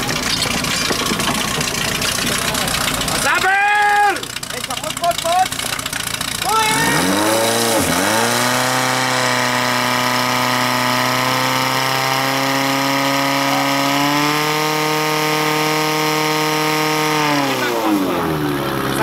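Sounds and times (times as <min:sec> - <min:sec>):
pump engine running at high revs: 0:00.0 - 0:19.0.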